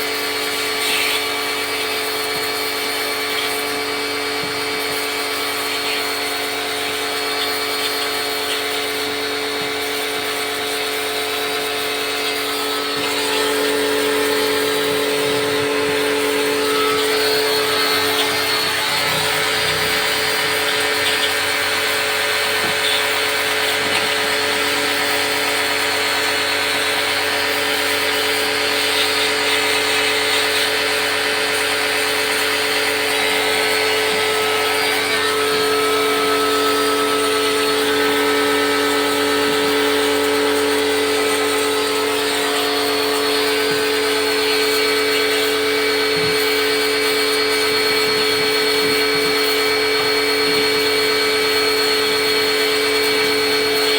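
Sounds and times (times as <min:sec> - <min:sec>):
electric motor whine: 0:00.0 - 0:53.9.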